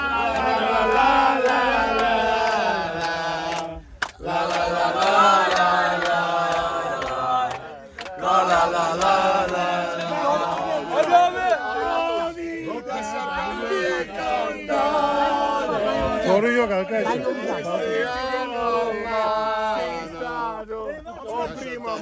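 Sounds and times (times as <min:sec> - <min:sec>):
crowd singing a football chant: 0:00.0 - 0:22.0.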